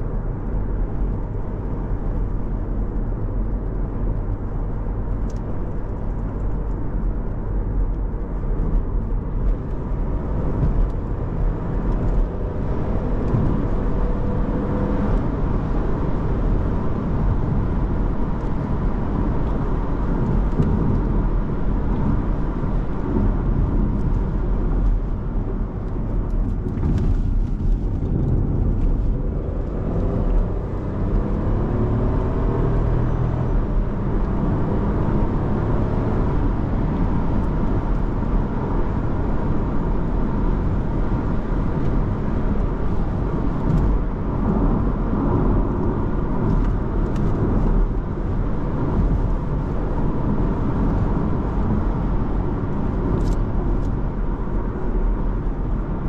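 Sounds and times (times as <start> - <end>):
car engine accelerating: 0.0 - 56.0
road and tyre noise: 0.0 - 56.0.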